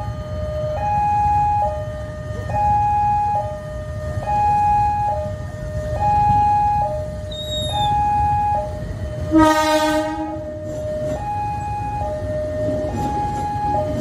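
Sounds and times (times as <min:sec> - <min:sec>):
level crossing two-tone alarm: 0:00.0 - 0:14.0
low rumble of traffic: 0:00.0 - 0:14.0.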